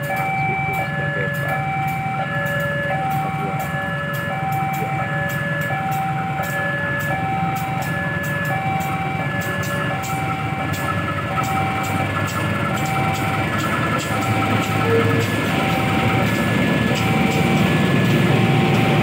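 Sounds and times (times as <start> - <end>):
locomotive engine drone: 0.0 - 19.0
two-tone electronic warning signal: 0.0 - 19.0.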